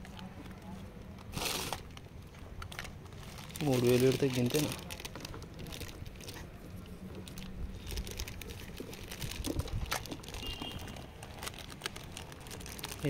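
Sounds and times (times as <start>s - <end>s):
cardboard parcel rustling: 1.3s - 13.0s.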